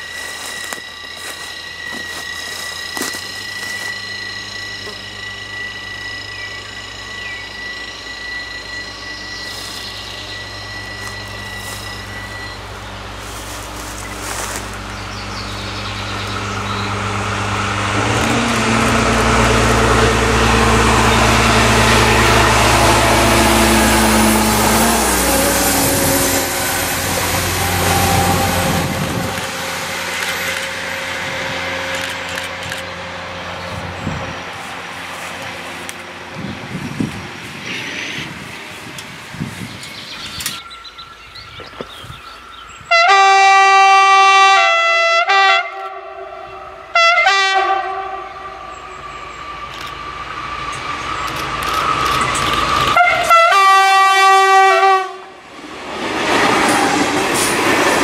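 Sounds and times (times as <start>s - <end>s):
diesel railcar passing: 0.0s - 58.0s.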